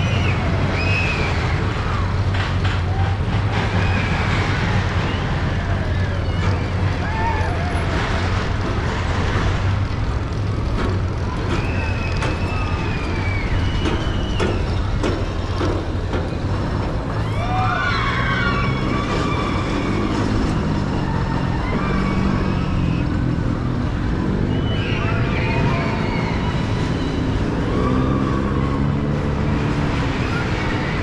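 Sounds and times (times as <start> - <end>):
people screaming: 0.0 - 31.0.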